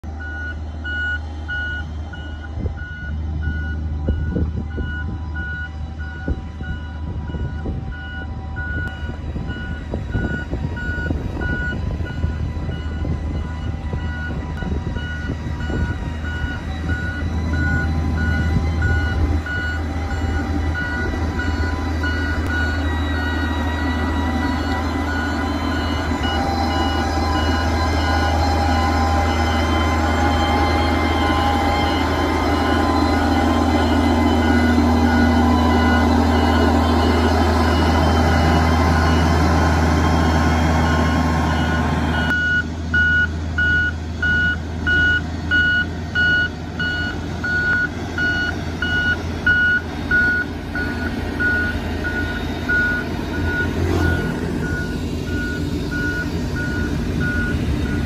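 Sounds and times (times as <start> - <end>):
diesel engine running under load: 0.0 - 58.0
reversing alarm beeping: 0.0 - 58.0.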